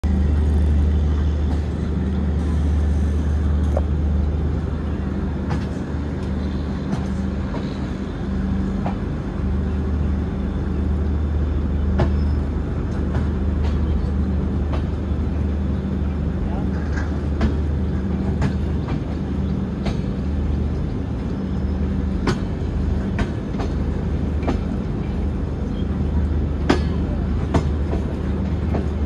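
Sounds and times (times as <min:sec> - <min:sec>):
train rumbling: 0:00.0 - 0:29.0
wheels clicking and squeaking on rails: 0:00.1 - 0:29.0.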